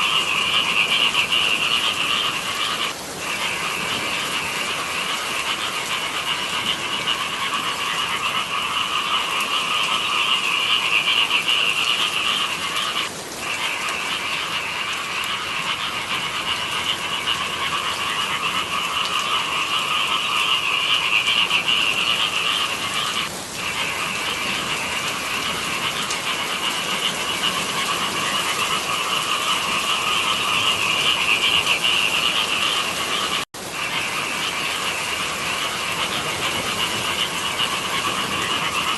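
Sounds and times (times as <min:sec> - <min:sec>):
chorus of frogs croaking: 0:00.0 - 0:38.9.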